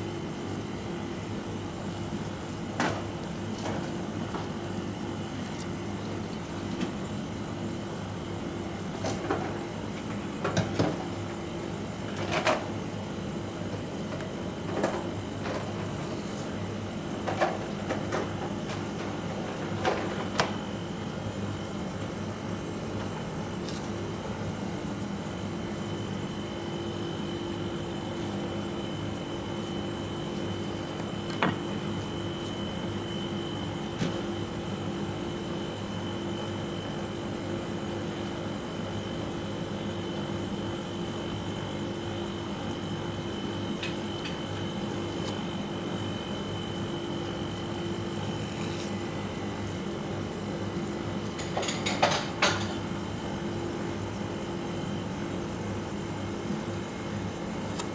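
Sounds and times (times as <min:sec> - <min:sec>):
kitchen equipment humming: 0:00.0 - 0:57.9.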